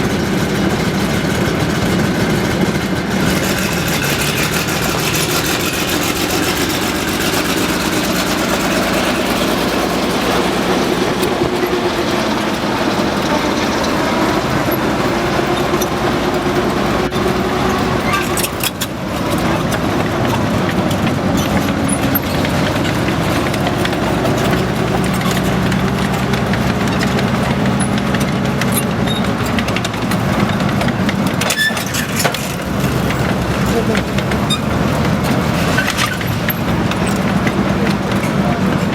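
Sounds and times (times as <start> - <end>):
tank engine running: 0.0 - 38.9.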